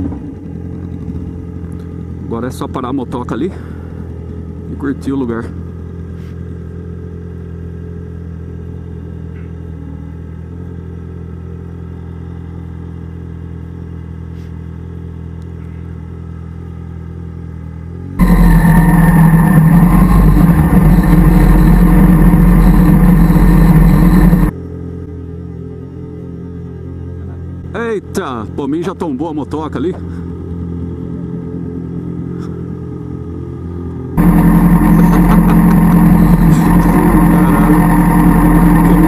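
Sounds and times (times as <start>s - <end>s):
motorcycle engine running: 0.0s - 29.0s, 29.7s - 39.0s.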